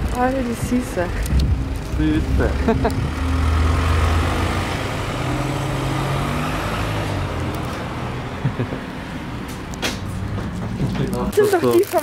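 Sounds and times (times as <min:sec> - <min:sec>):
road traffic: 0:00.0 - 0:12.0
vehicle engine humming: 0:00.0 - 0:12.0.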